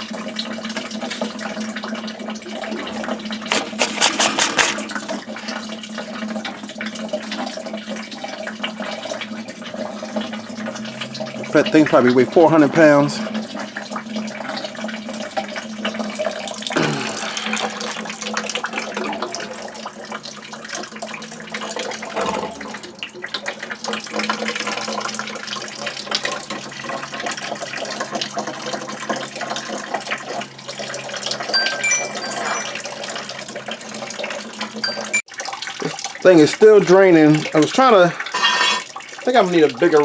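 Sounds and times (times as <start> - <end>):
water running and splashing: 0.0 - 40.0.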